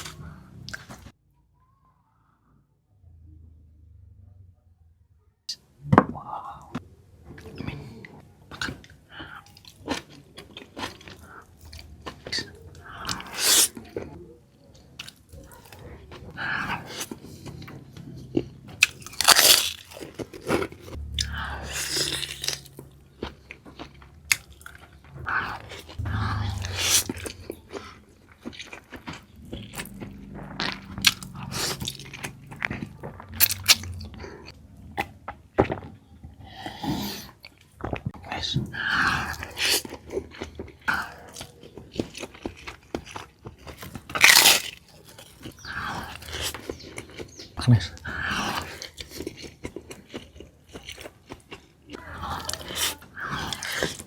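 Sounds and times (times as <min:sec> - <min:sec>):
crunching and chewing food: 0:00.0 - 0:01.2, 0:06.6 - 0:54.0.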